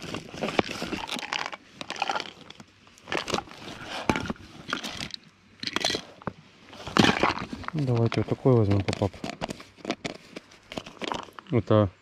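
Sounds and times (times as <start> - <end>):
containers rustling and clicking: 0.0 - 11.6.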